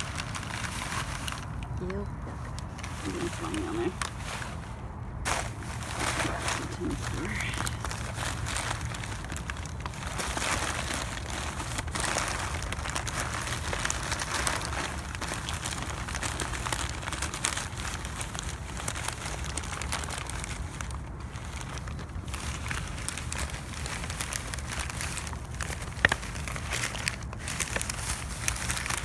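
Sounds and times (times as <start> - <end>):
trash crinkling and rustling: 0.0 - 29.0.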